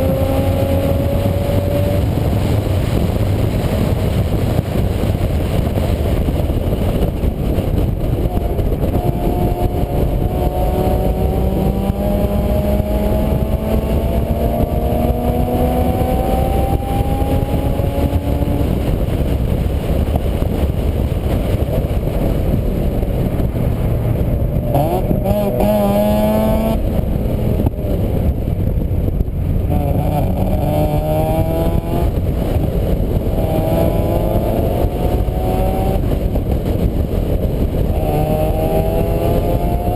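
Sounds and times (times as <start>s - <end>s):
heavy steady rumbling: 0.0s - 39.9s
vehicle engine accelerating: 0.0s - 39.9s.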